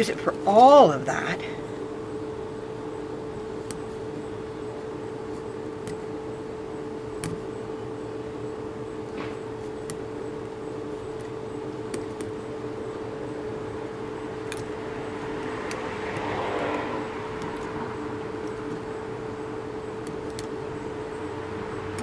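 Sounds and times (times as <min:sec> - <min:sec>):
rotary tool whining: 0:01.7 - 0:22.0.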